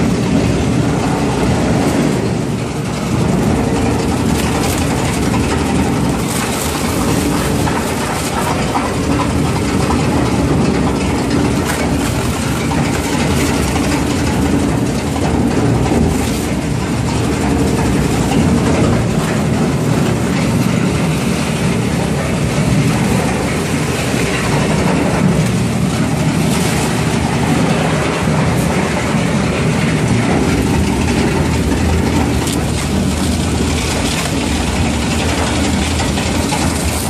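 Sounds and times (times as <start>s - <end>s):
low machine hum: 0.0s - 37.0s
shredder tearing plastic bags: 3.0s - 37.0s.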